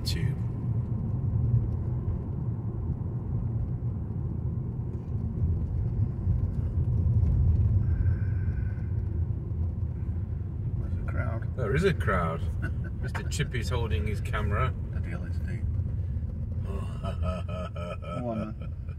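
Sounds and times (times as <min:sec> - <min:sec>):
road and tyre rumble: 0:00.0 - 0:18.9.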